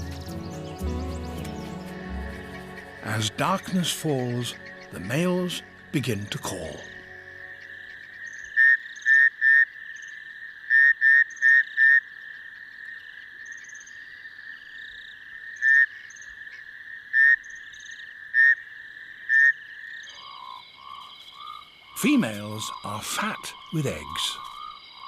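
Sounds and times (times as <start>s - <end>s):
frogs chirping: 0.0s - 25.0s.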